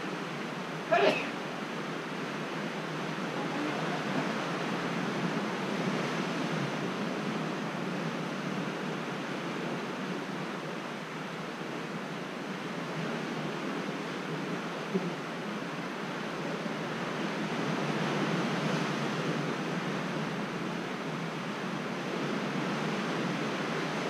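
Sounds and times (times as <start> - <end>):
sea surf against rocks: 0.0 - 24.0.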